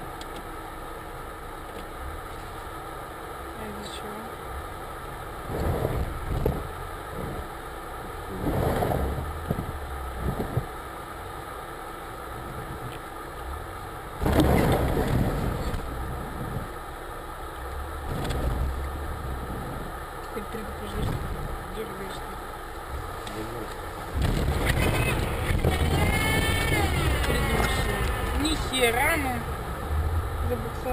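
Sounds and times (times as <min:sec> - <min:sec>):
car engine running: 0:00.0 - 0:30.9
road rumble: 0:00.0 - 0:30.9.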